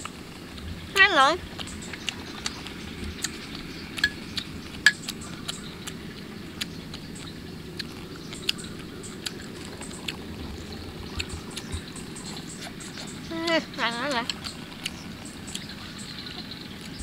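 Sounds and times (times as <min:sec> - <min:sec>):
low background rumble: 0:00.0 - 0:17.0
person chewing: 0:01.5 - 0:17.0
lip smacks: 0:01.6 - 0:17.0.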